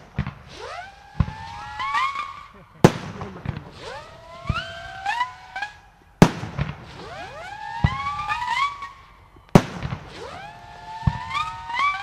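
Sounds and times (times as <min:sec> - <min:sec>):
whistling fireworks: 0:00.0 - 0:12.0.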